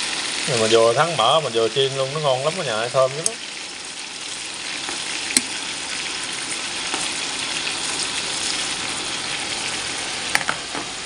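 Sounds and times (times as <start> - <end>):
pork sizzling in hot fat: 0.0 - 11.0.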